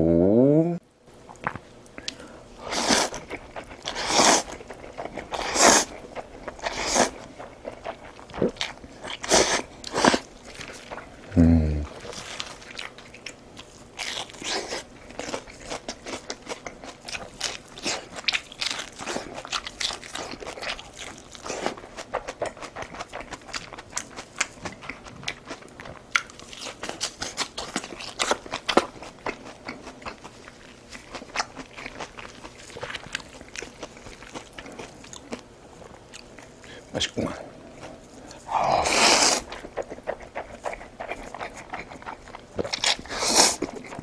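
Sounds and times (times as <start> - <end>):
person crunching and chewing: 1.2 - 44.0.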